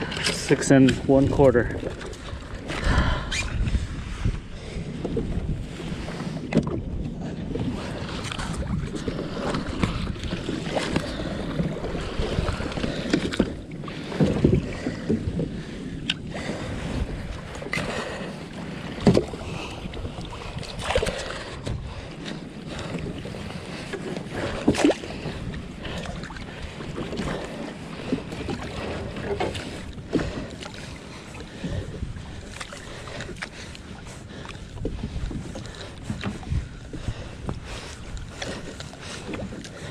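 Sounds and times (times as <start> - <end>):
water lapping around a kayak: 0.0 - 39.9
wind on the microphone: 0.0 - 39.9.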